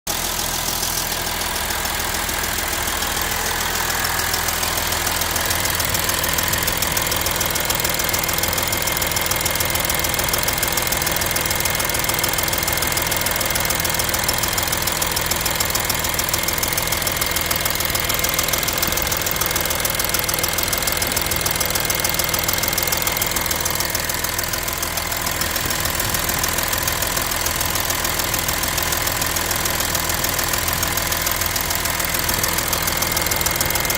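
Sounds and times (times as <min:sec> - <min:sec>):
diesel engine running: 0:00.1 - 0:33.9
rapid metallic ticking: 0:02.3 - 0:33.9.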